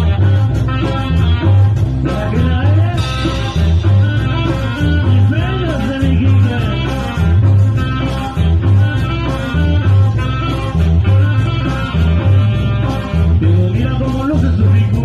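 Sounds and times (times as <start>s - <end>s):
band playing cumbia: 0.0s - 15.0s.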